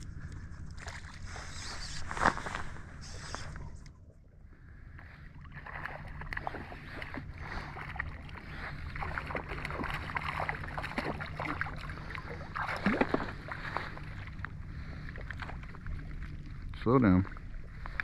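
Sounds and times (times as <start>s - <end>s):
water sloshing around legs: 0.0s - 3.9s, 4.9s - 18.0s
low steady rumble: 0.0s - 18.0s.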